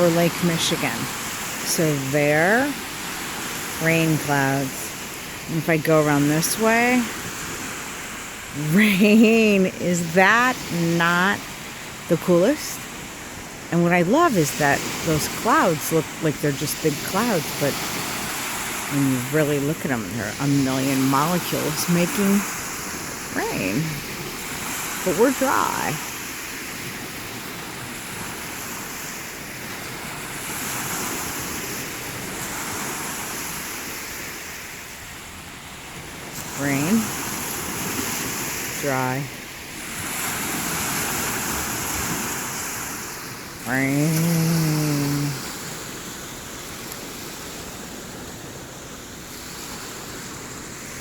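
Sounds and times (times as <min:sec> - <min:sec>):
lake waves washing in: 0:00.0 - 0:51.0
wind: 0:00.0 - 0:51.0.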